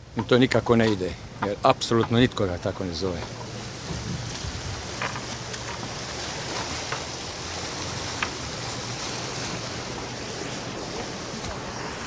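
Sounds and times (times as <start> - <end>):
surf washing against rocks: 0.0 - 12.0.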